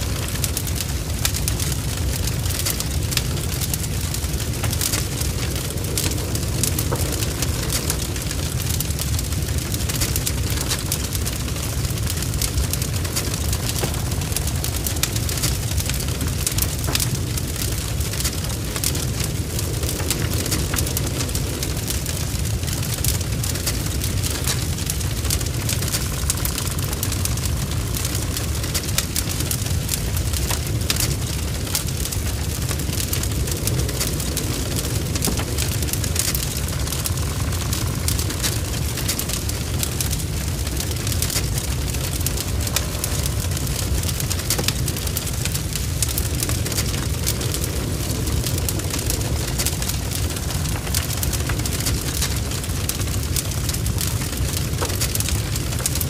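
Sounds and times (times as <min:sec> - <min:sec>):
burning wood crackling: 0:00.0 - 0:56.0
fire rumbling: 0:00.0 - 0:56.0.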